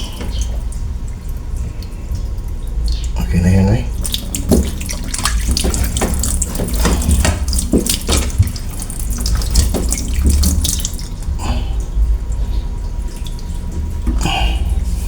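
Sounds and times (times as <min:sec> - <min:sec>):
faucet water running into sink: 0:00.0 - 0:15.0
water splashing: 0:00.0 - 0:15.0.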